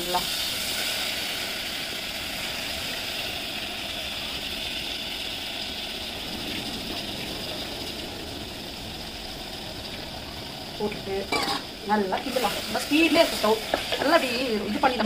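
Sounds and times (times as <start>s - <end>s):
food frying hiss: 0.0s - 15.0s.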